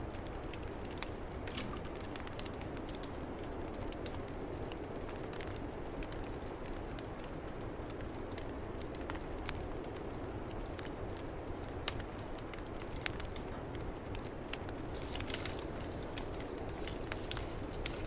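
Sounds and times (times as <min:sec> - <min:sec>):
fire popping: 0:00.0 - 0:18.0
wood fire crackling: 0:00.0 - 0:18.0.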